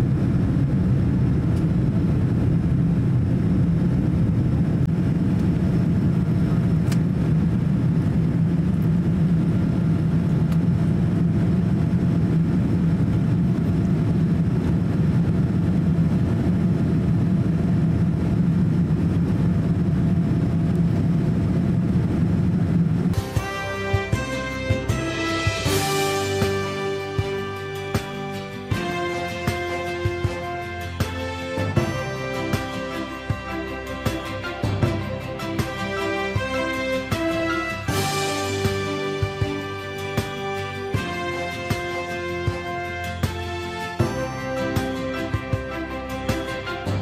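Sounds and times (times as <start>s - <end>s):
airliner cabin drone: 0.0s - 47.0s.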